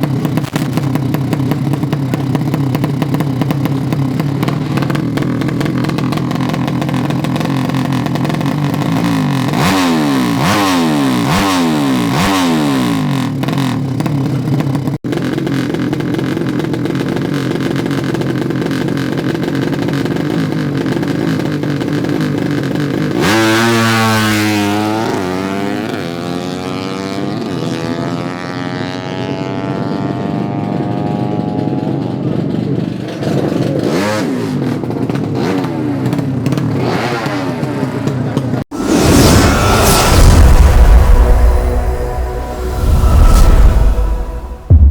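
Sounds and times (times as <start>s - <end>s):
racing motorcycle engines revving: 0.0s - 40.3s.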